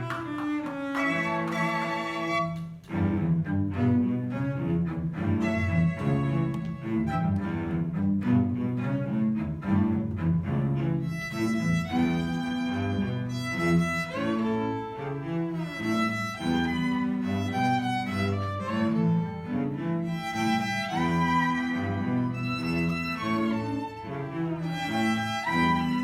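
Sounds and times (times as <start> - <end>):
small instrumental ensemble: 0.0 - 26.0.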